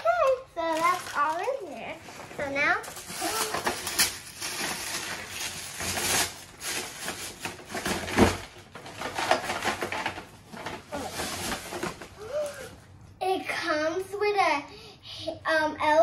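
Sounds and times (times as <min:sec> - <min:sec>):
packaging rustling and crinkling: 0:00.0 - 0:12.8.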